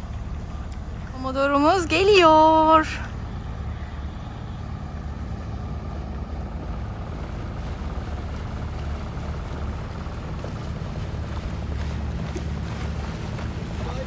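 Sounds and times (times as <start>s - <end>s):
diesel engine low hum: 0.0s - 14.0s.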